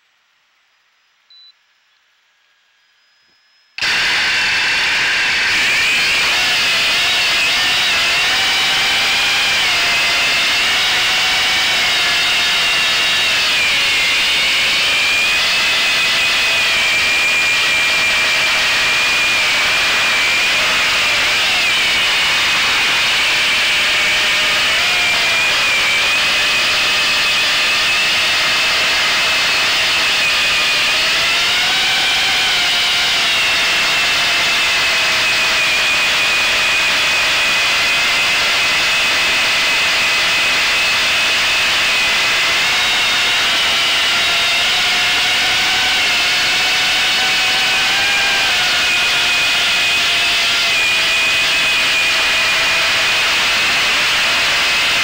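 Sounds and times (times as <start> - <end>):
model airplane motor whining: 3.8 - 55.0.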